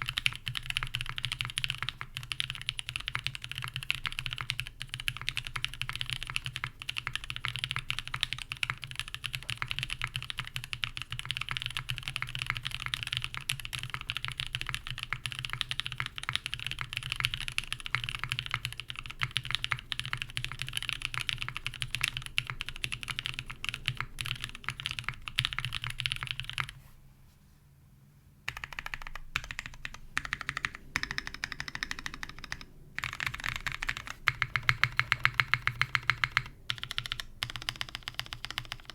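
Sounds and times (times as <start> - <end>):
mechanical keyboard typing: 0.0 - 26.8, 28.5 - 38.9.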